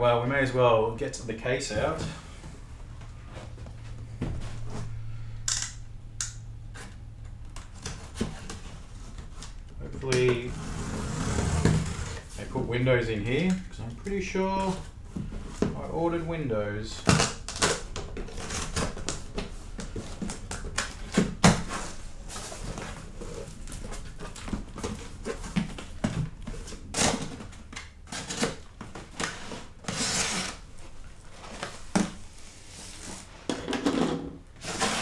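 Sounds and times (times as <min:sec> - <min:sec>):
packaging rustling and scraping: 0:01.4 - 0:05.6, 0:07.6 - 0:35.0.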